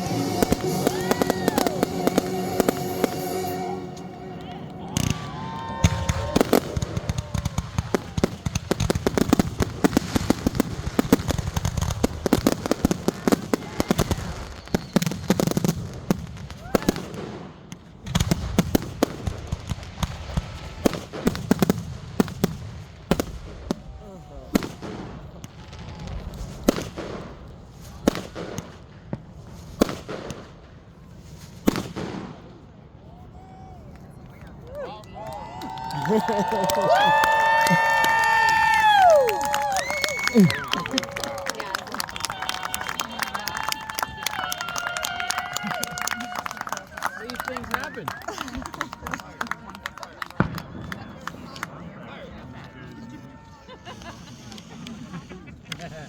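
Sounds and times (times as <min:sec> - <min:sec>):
fireworks bangs and crackles: 0:00.0 - 0:33.1, 0:33.9 - 0:56.0.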